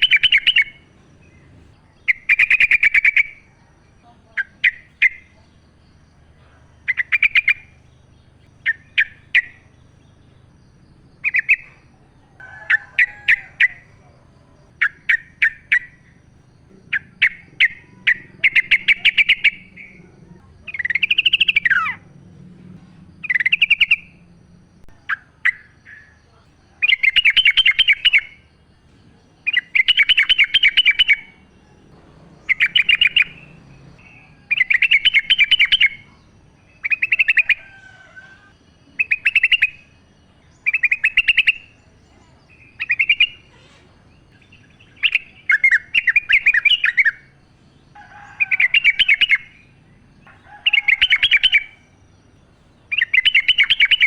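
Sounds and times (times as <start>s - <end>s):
bulbul singing: 0.0s - 54.0s.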